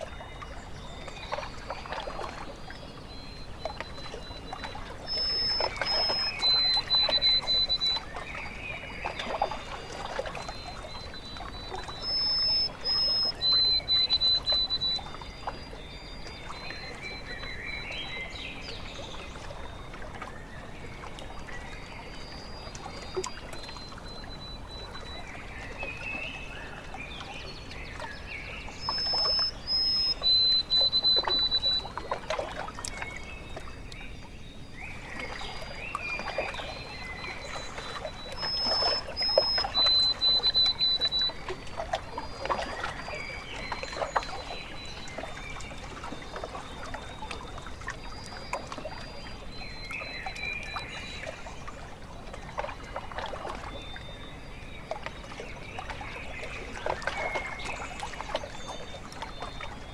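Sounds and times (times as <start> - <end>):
bird singing: 0.0 - 59.9
small waves lapping at shore: 0.0 - 59.9.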